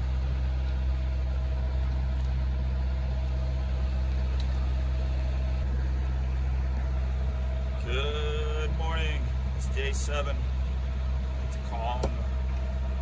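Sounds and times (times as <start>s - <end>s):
boat engine droning: 0.0s - 13.0s
faint steady whine: 0.0s - 13.0s.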